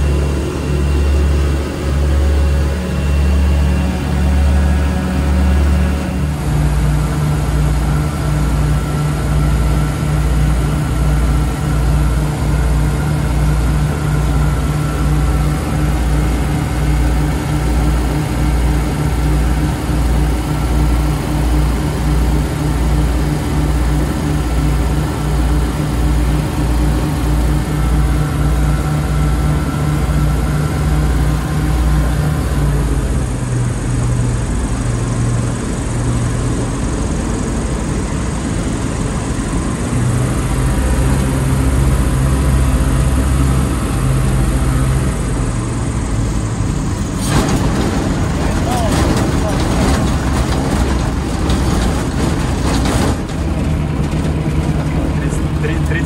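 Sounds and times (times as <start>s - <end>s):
aircraft engines droning: 0.0s - 56.0s.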